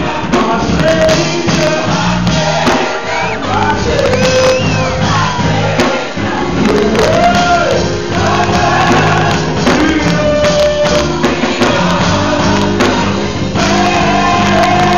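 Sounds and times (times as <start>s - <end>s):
gospel choir singing: 0.0s - 14.9s
instrumental accompaniment: 0.0s - 14.9s
percussion: 0.0s - 14.9s.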